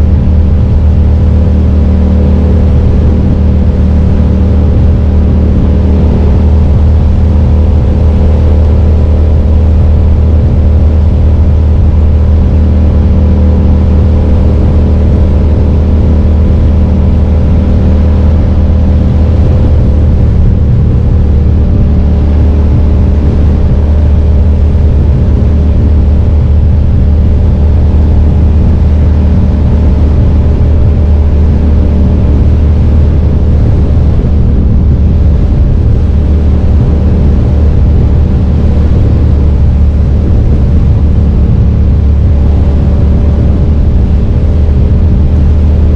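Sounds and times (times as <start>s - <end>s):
motorcycle engine running: 0.0s - 45.9s
road noise: 0.0s - 45.9s
wind noise: 0.0s - 45.9s.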